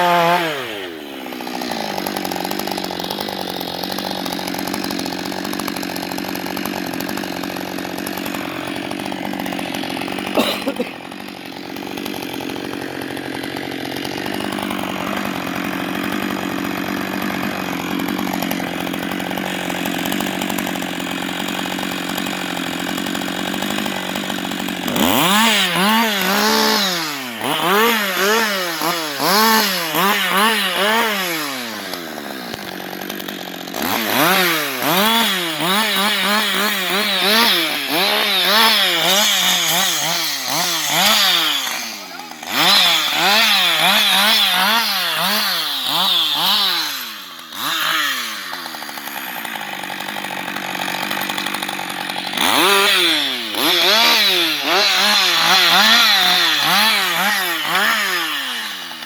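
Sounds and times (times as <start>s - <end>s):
chainsaw running and revving: 0.0s - 59.0s.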